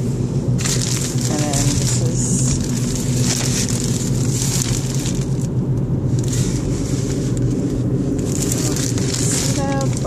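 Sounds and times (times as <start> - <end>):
car engine hum: 0.0 - 10.0
plastic packaging crinkling: 0.6 - 10.0.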